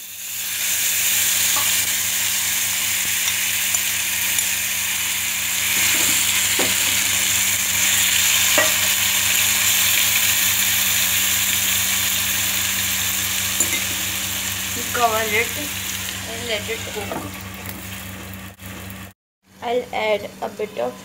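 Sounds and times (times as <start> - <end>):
chicken sizzling in oil: 0.0 - 19.2.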